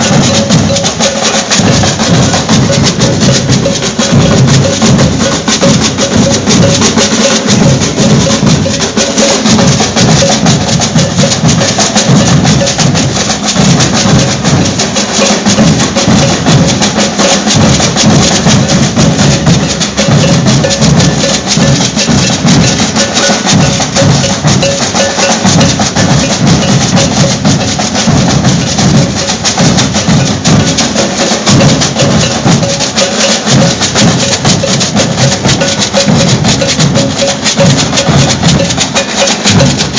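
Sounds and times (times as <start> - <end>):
bass drums: 0.0 - 39.9
shakers: 0.0 - 39.9
snare drums: 0.0 - 39.9.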